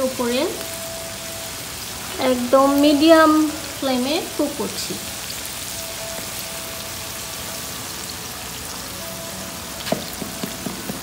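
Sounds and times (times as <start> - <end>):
patties sizzling on a griddle: 0.0 - 11.0.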